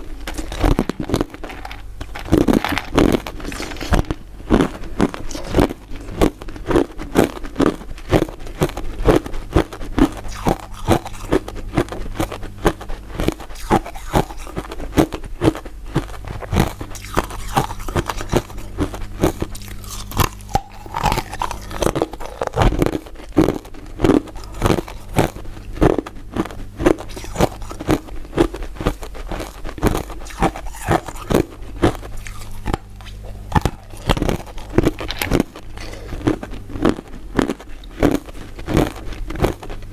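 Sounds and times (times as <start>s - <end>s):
crunching and chewing ice: 0.0s - 39.9s
faint low hum: 0.0s - 39.9s.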